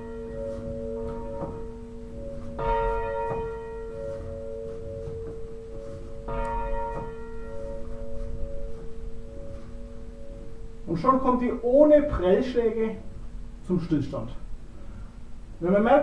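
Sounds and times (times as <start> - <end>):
church bell ringing: 0.0 - 13.4.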